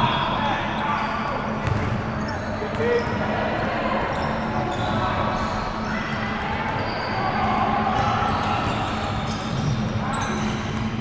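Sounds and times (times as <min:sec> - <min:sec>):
players' voices: 0:00.0 - 0:09.2.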